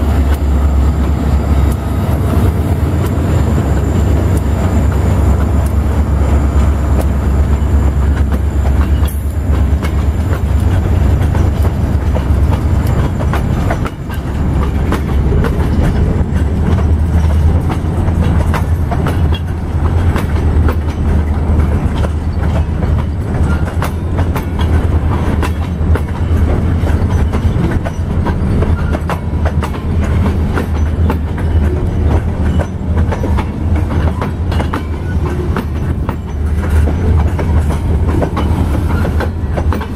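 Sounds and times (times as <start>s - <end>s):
train wheels rumbling on rails: 0.0s - 39.9s
wheels clacking over rail joints: 0.0s - 39.9s.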